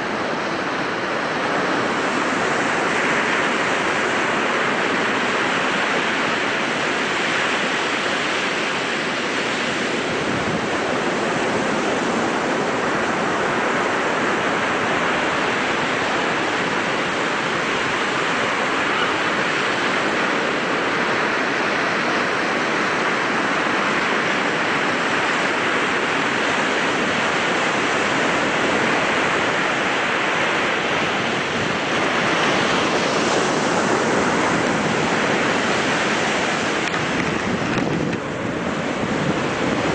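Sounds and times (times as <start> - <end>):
surf breaking on sandy shore: 0.0 - 39.9
wind: 0.0 - 39.9.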